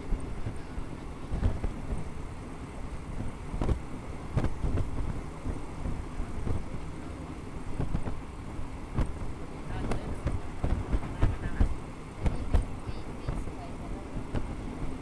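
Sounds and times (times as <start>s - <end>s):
train rumbling on track: 0.0s - 15.0s
wind buffeting: 0.0s - 15.0s.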